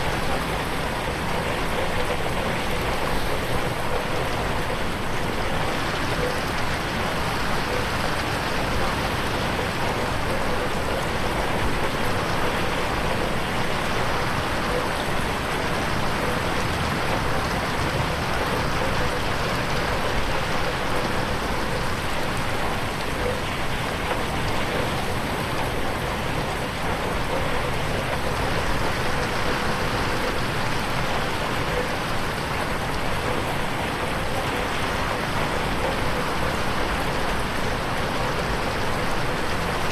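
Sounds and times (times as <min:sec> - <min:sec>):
rain falling on a window: 0:00.0 - 0:39.9.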